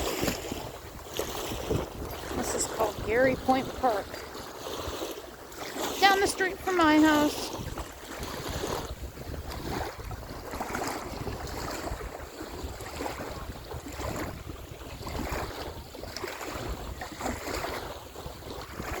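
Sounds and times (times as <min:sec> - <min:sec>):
small waves lapping shoreline: 0:00.0 - 0:19.0
wind buffeting microphone: 0:00.0 - 0:19.0.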